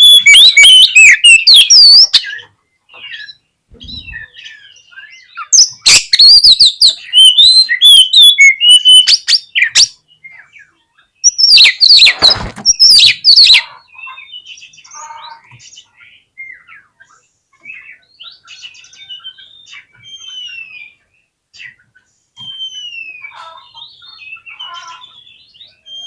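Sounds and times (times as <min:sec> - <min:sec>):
bird singing whistled notes: 0:00.0 - 0:14.8, 0:17.7 - 0:21.8, 0:22.4 - 0:26.0.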